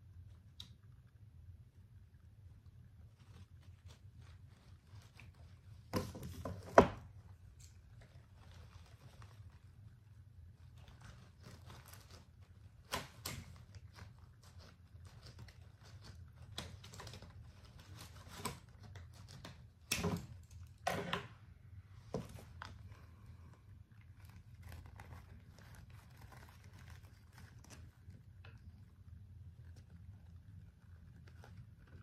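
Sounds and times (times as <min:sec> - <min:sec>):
low steady hum: 0:00.0 - 0:32.0
rustling and crinkling: 0:00.0 - 0:32.0.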